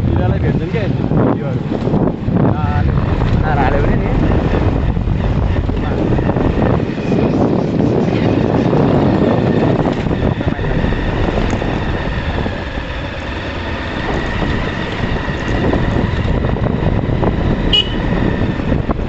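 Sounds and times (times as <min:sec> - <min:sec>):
motorbike engine and road noise: 0:00.0 - 0:19.0.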